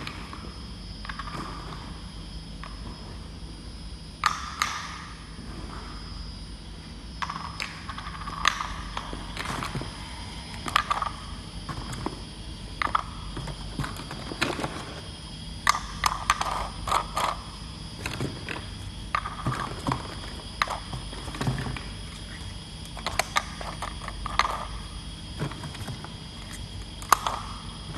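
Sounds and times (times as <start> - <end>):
faint machine hum: 0.0 - 27.9.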